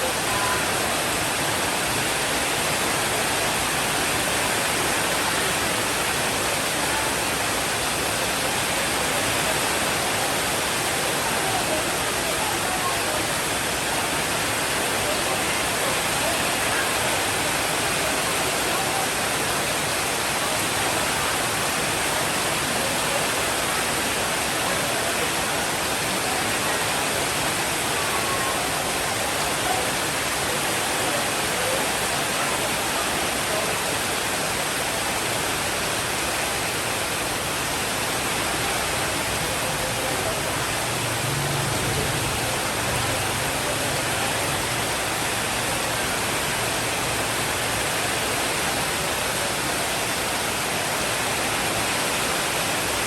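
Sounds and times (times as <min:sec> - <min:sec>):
heavy rainfall: 0:00.0 - 0:53.0.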